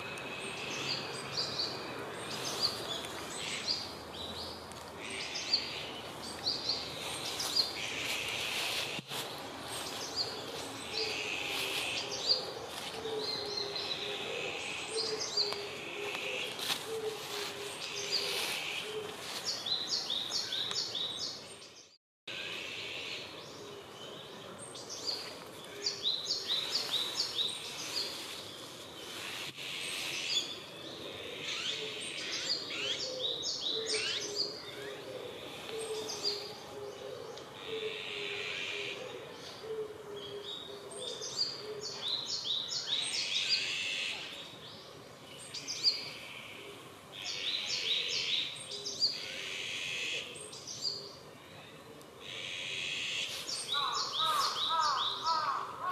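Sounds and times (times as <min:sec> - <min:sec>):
small birds singing: 0:00.0 - 0:55.9.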